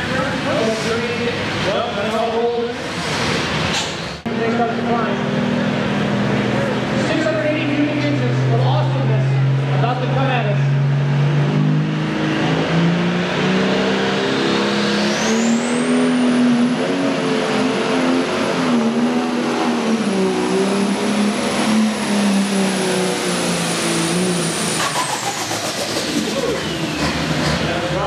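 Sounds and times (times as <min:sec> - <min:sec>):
diesel engine under load: 0:00.0 - 0:28.0.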